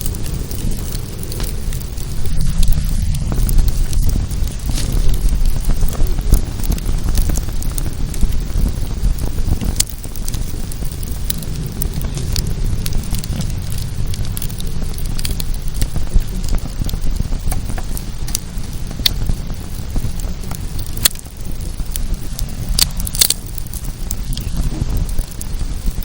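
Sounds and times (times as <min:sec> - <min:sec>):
bonfire low rush: 0:00.0 - 0:26.0
fire crackling and popping: 0:00.0 - 0:26.0.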